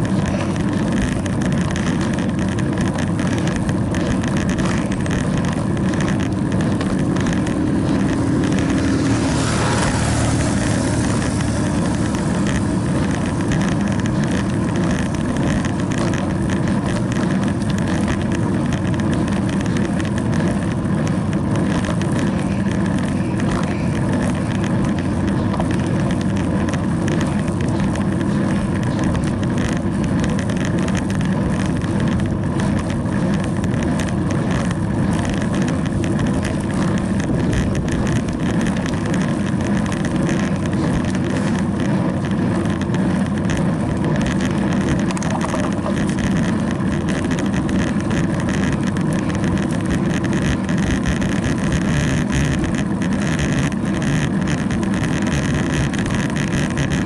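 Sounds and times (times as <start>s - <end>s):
tyres rolling on asphalt: 0.0s - 57.0s
wind on microphone: 0.0s - 57.0s.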